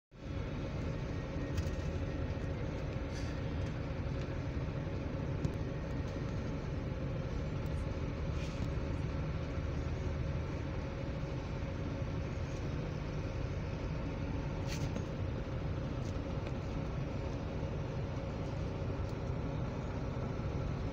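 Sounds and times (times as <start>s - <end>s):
low engine rumble: 0.1s - 20.9s.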